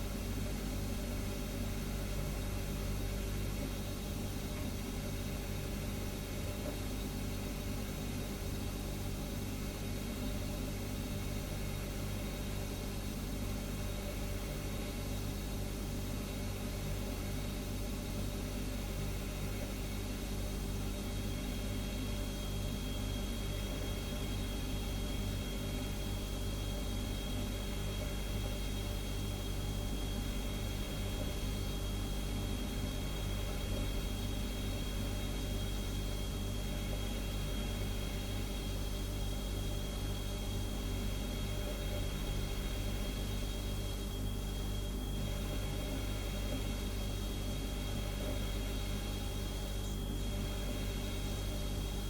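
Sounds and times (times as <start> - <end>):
refrigerator humming: 0.0 - 52.0.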